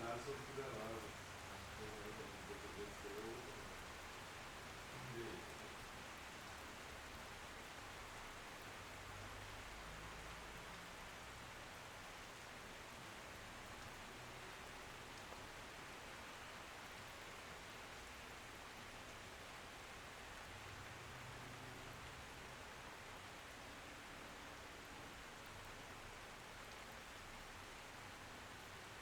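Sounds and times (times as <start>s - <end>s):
faint hiss of rain: 0.0s - 29.0s.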